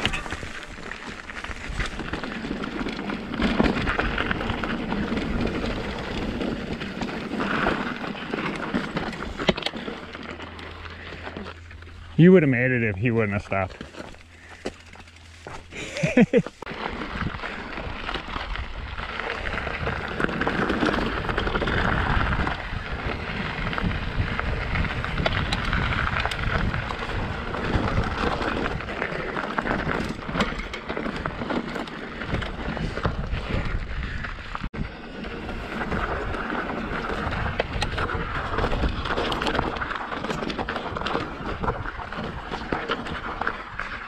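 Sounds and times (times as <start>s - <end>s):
bike rattling: 0.0s - 44.0s
tyres crunching over gravel: 0.0s - 44.0s.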